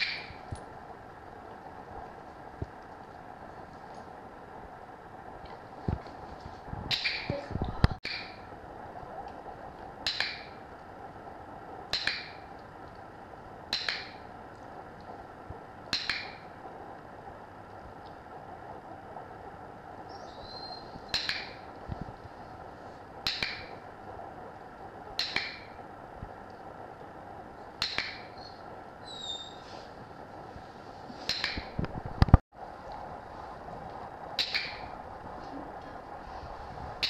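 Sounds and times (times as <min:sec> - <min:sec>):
room noise hum: 0:00.0 - 0:37.0.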